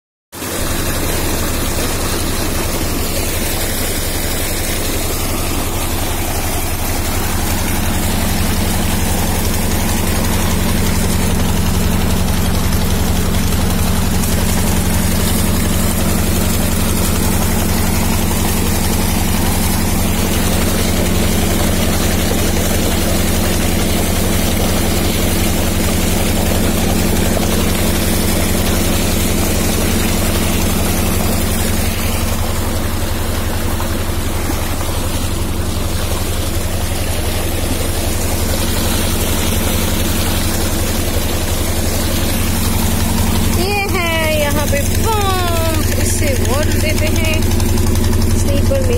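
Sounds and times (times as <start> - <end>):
water gushing along a channel: 0.3 - 48.9
pump humming: 0.4 - 48.9.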